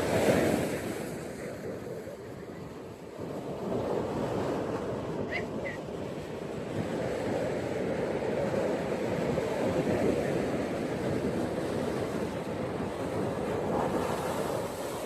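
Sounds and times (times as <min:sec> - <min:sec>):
ocean waves washing on beach: 0:00.0 - 0:15.0.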